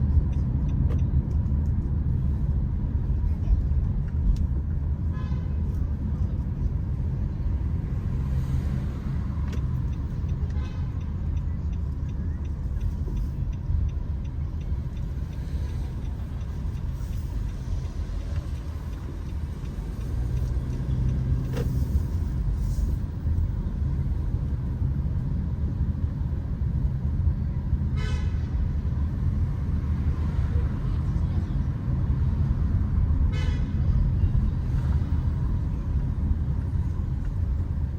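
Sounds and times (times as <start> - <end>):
road vehicles rumbling: 0.0 - 37.9.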